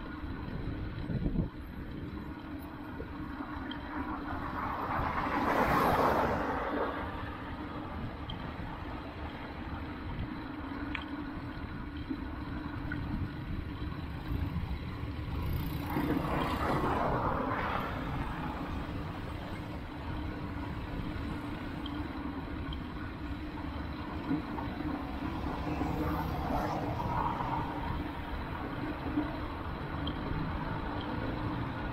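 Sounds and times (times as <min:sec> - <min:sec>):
road traffic drone: 0:00.0 - 0:31.9.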